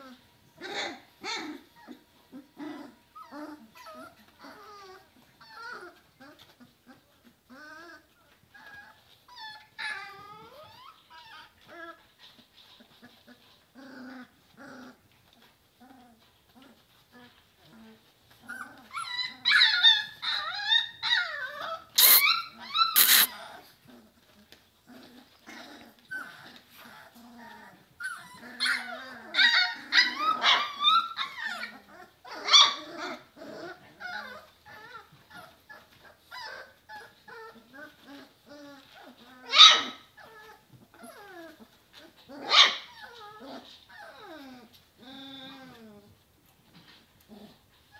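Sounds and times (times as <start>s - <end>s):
puppies whining and squealing: 0.0s - 47.9s.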